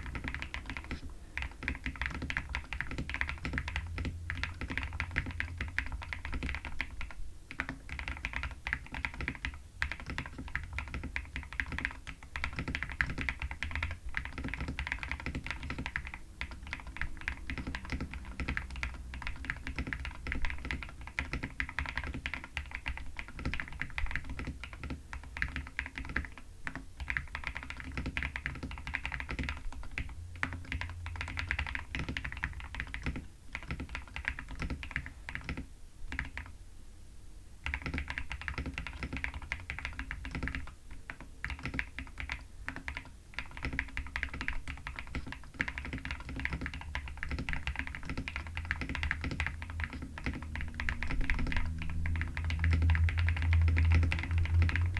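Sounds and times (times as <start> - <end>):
fast mechanical keyboard typing: 0.0 - 36.5, 37.6 - 54.9.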